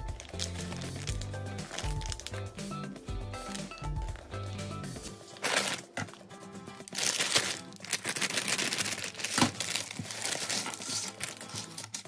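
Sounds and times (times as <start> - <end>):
plastic bag crinkling: 0.0 - 2.5, 3.4 - 6.2, 6.8 - 12.0.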